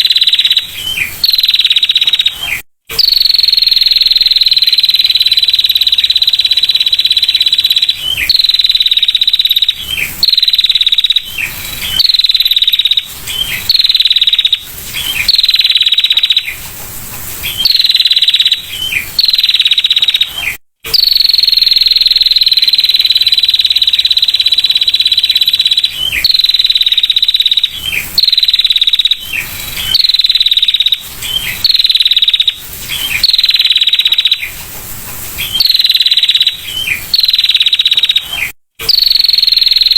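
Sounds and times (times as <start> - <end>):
bird trilling call: 0.0 - 16.6, 17.4 - 34.6, 35.4 - 39.9.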